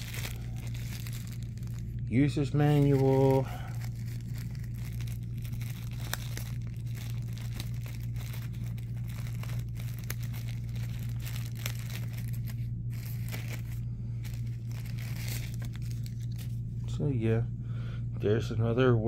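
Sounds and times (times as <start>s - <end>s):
plastic packet crinkling: 0.0s - 16.6s
steady low hum: 0.0s - 19.0s.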